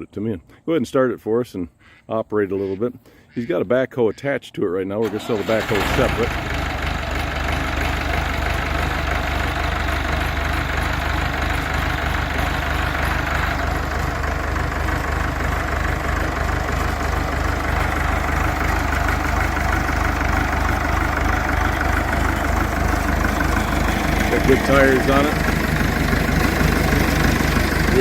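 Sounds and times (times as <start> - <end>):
tractor diesel engine running: 5.0 - 28.0.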